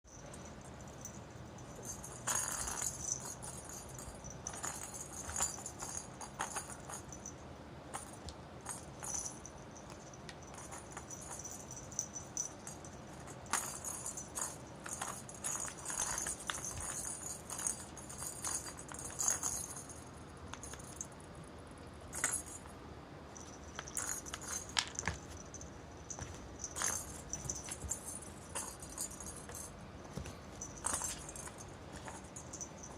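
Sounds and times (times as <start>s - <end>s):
cat toy bell jingling: 0.1s - 22.7s, 23.4s - 32.9s.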